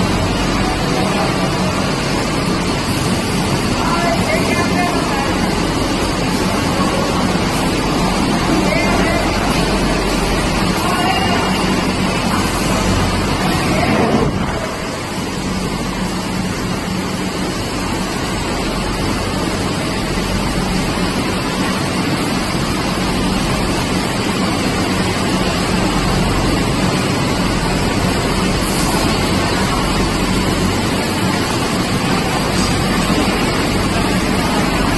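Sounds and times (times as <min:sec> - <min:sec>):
biscuit machine running: 0:00.0 - 0:34.9.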